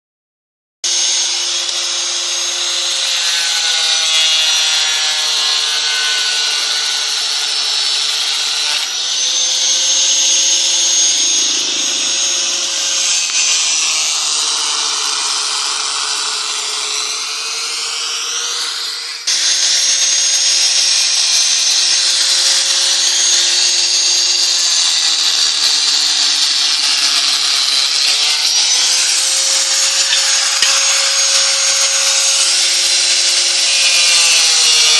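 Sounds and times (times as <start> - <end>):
angle grinder cutting steel: 0.8 - 34.9.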